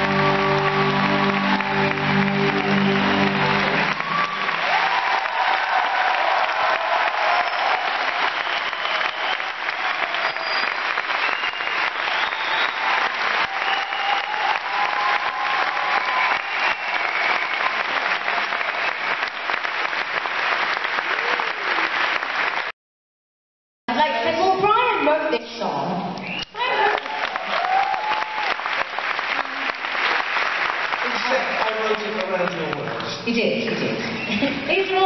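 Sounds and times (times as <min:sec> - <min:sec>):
audience applauding: 0:00.0 - 0:22.7, 0:26.2 - 0:35.0
audience cheering: 0:00.0 - 0:22.7, 0:26.2 - 0:32.4.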